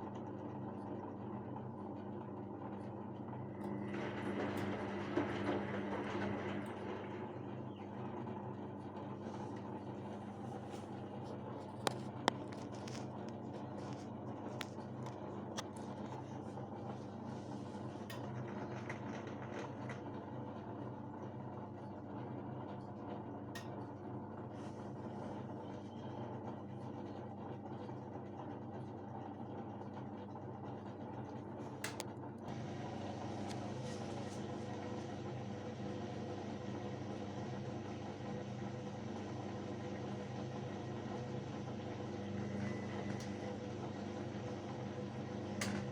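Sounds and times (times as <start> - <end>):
washing machine running: 0.0 - 45.9.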